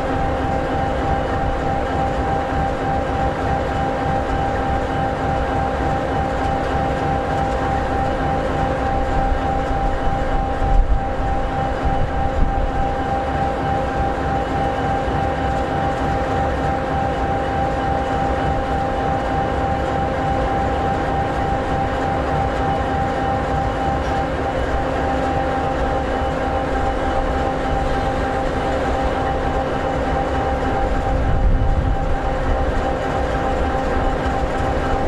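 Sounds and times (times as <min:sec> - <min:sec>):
diesel locomotive idling: 0:00.0 - 0:35.0.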